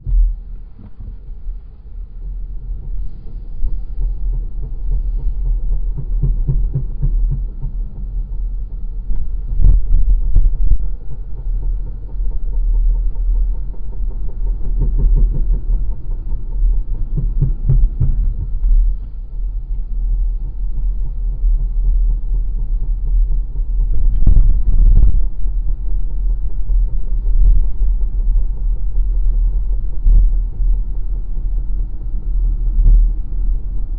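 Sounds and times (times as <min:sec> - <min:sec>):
car moving with low rumble: 0:00.0 - 0:33.9.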